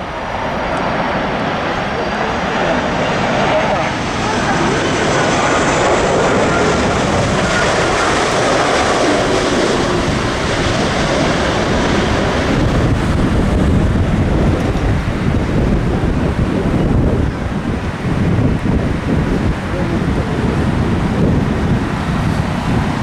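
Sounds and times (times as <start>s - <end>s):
jet engines on approach: 0.0s - 23.0s
wind buffeting microphone: 0.0s - 23.0s.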